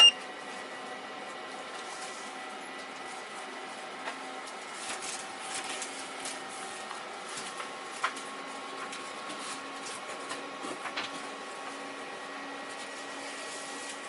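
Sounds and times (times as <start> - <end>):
fan heater blowing and humming: 0.0 - 14.0.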